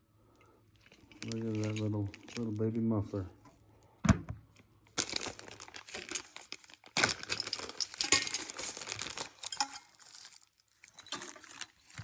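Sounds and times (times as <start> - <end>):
packaging crinkling and tearing: 0.7 - 3.3, 4.8 - 12.0.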